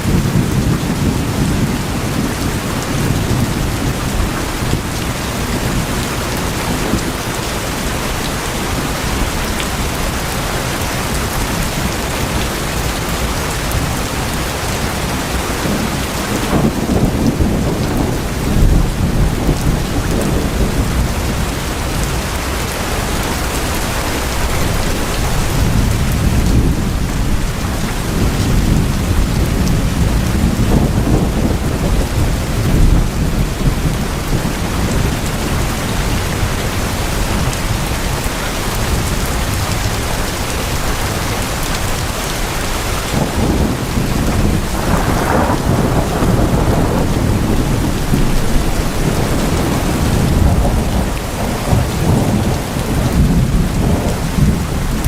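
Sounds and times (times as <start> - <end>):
deep thunder rumble: 0.0 - 55.0
heavy rain on tin roofs: 0.0 - 55.0.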